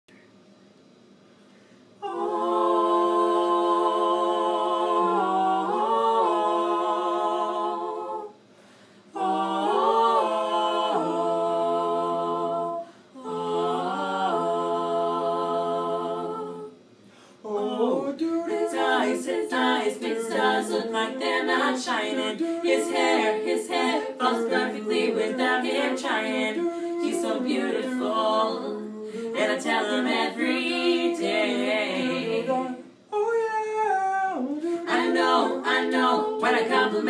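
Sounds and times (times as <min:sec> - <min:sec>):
vocal quartet singing a cappella: 0:02.0 - 0:37.0.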